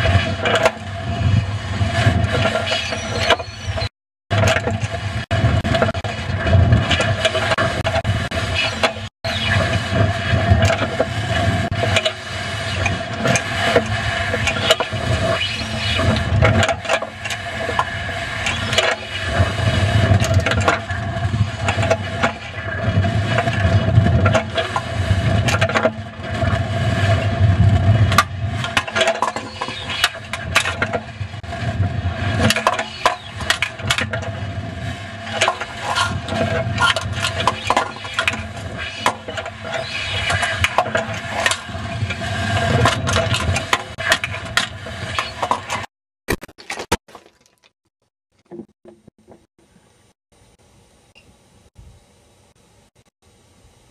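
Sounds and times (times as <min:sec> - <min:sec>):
wind rushing over camera: 0:00.0 - 0:45.9.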